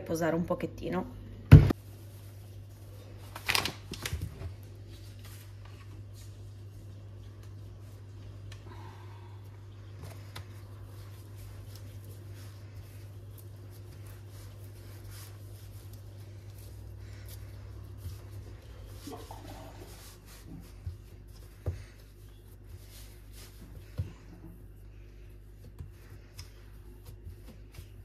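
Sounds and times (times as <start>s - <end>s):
steady low hum: 0.0s - 28.0s
hands kneading dough: 1.7s - 28.0s.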